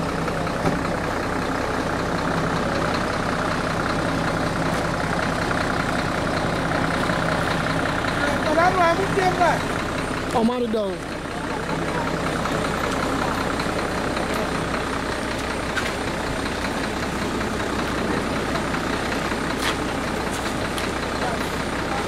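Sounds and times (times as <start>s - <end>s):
bus engine idling: 0.0s - 22.0s.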